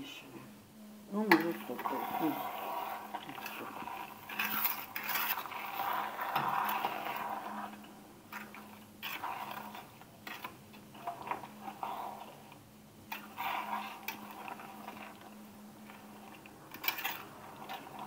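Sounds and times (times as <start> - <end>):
metal spoon scraping pot: 1.3 - 12.5, 13.1 - 18.0.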